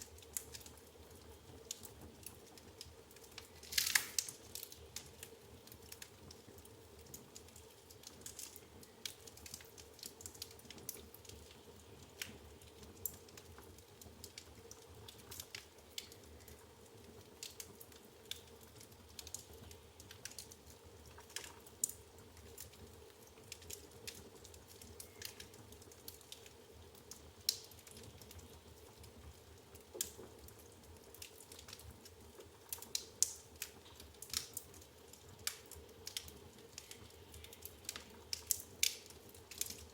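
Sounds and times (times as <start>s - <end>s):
burning logs popping: 0.0s - 39.9s
wood fire crackling: 0.0s - 39.9s.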